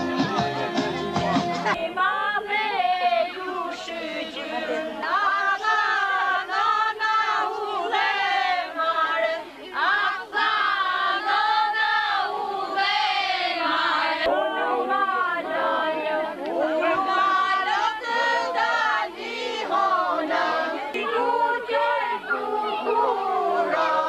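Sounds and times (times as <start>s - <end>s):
group singing unaccompanied: 0.0s - 24.0s.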